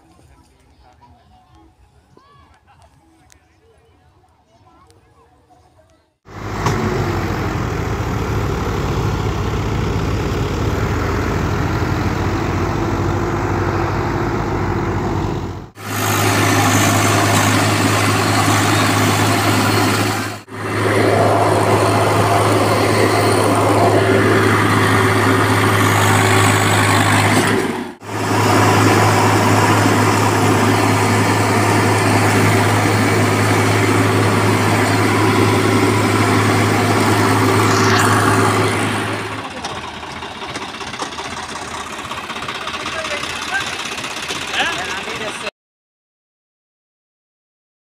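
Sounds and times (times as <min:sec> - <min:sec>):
tractor diesel engine running: 0:06.3 - 0:45.5.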